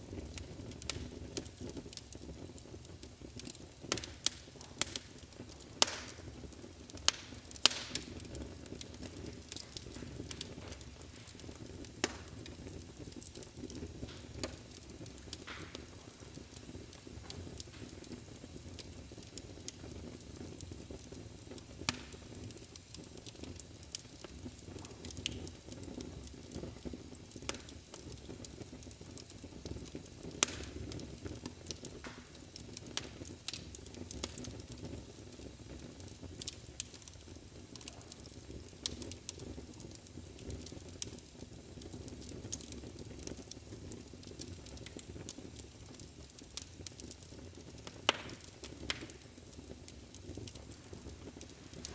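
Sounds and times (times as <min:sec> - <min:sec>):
wood fire crackling in fireplace: 0:00.0 - 0:51.9.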